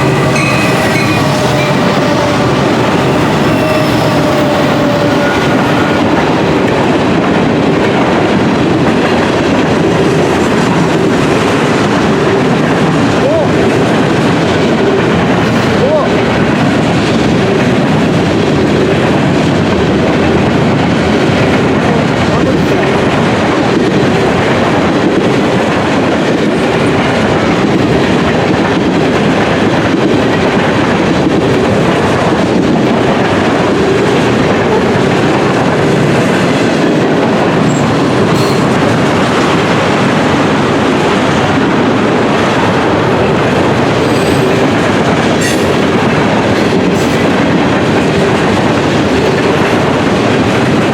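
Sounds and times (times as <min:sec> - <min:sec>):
train wheels clattering on rails: 0:00.0 - 0:50.9.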